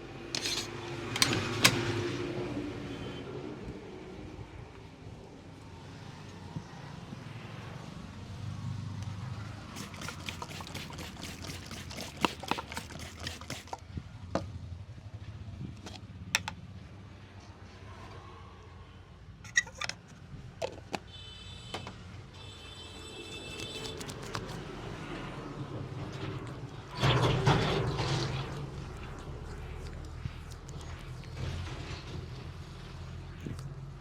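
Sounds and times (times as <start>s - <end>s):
street hum: 0.0s - 18.2s, 19.3s - 34.0s.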